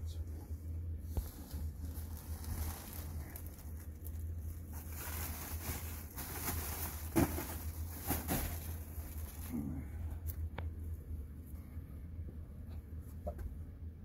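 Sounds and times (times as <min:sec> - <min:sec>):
steady low hum: 0:00.0 - 0:14.0
rustling over insulation: 0:00.2 - 0:11.8.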